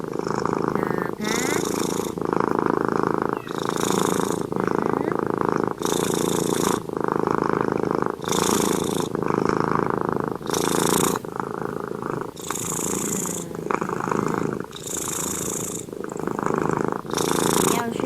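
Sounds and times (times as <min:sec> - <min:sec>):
cat purring loudly: 0:00.0 - 0:18.0.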